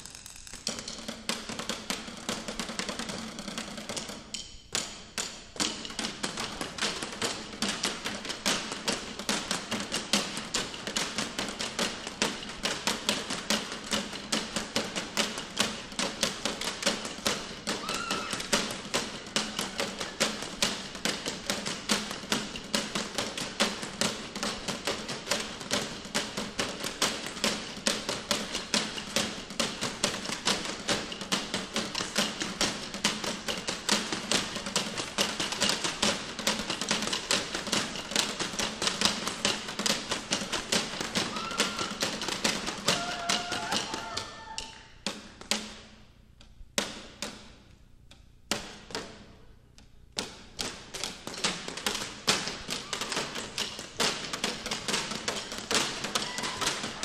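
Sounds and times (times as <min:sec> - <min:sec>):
sticks beating buckets and cans: 0:00.0 - 0:57.0.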